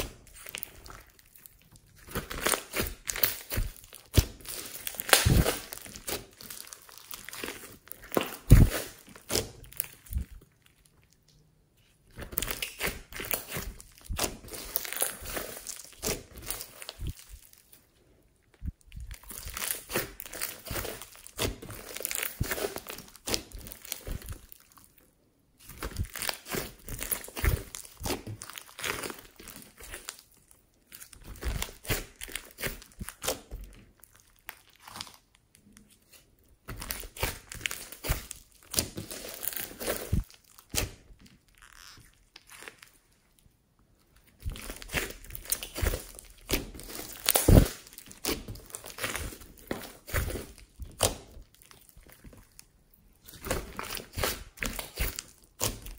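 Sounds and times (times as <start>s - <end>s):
slime crackling and popping: 0.0s - 11.4s, 12.0s - 43.4s, 44.0s - 55.9s.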